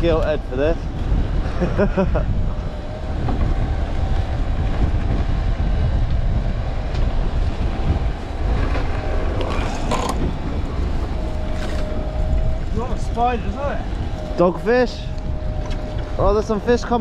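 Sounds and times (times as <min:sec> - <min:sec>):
net hauler whine: 0:00.0 - 0:17.0
wind rumbling on microphone: 0:00.0 - 0:17.0.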